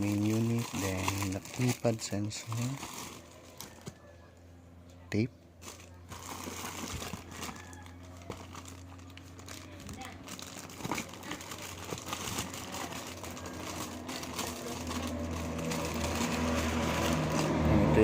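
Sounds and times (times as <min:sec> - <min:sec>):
plastic packaging crinkling: 0:00.0 - 0:04.0, 0:05.6 - 0:17.6.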